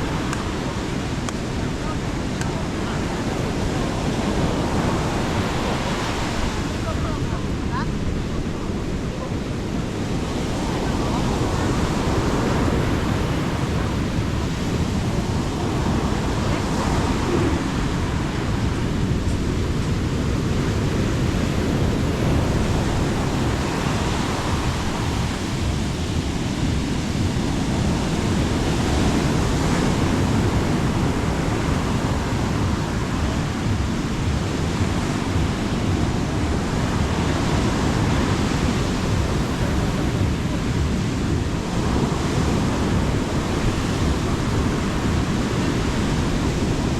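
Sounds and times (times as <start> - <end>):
sea waves breaking on beach: 0.0 - 46.9
wind rumbling on microphone: 0.0 - 46.9.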